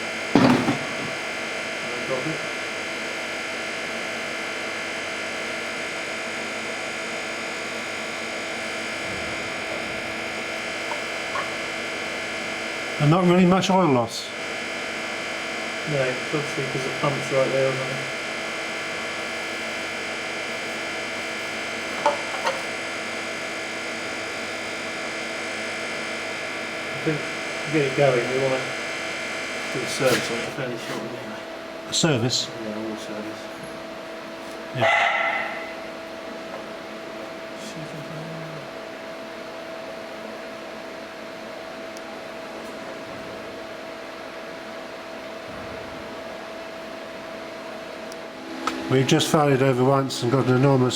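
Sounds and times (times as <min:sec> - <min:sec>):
electrical hum: 0:00.0 - 0:50.9.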